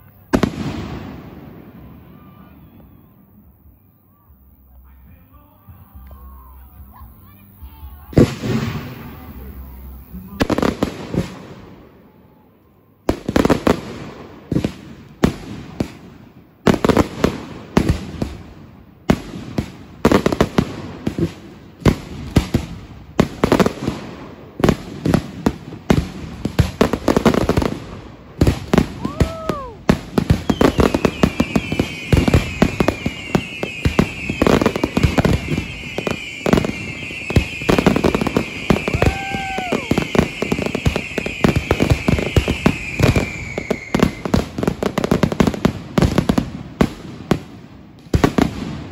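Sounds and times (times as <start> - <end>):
fireworks bangs: 0.0 - 12.4, 13.0 - 48.9
whistling crackling fireworks: 0.0 - 48.9.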